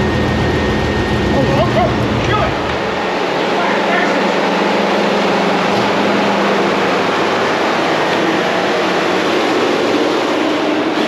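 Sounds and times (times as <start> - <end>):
radiator cooling fans rushing: 0.0 - 11.0.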